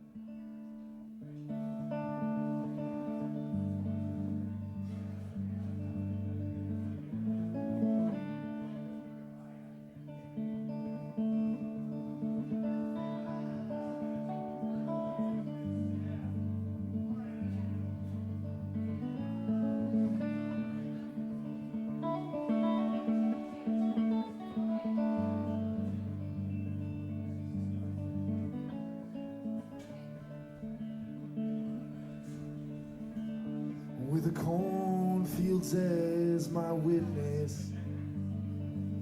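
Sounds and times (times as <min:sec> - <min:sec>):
acoustic guitar playing chords: 0:00.0 - 0:39.0.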